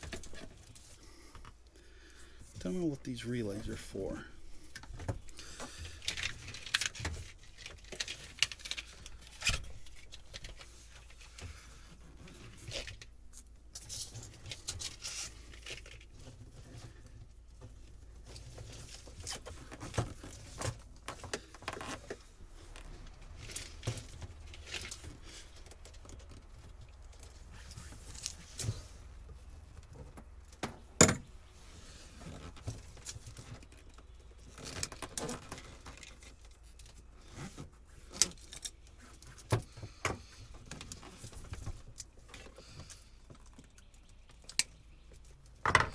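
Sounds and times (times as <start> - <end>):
wire and plastic rustling: 0.0 - 45.9.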